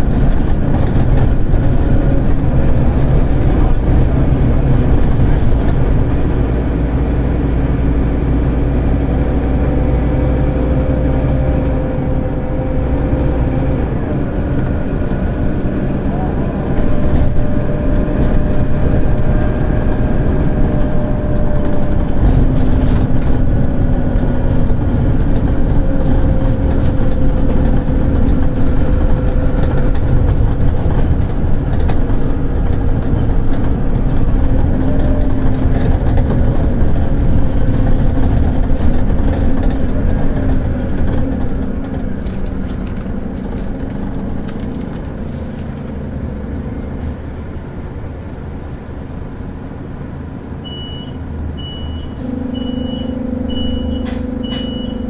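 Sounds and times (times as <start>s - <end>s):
bus diesel engine pulling hard: 0.0s - 55.0s.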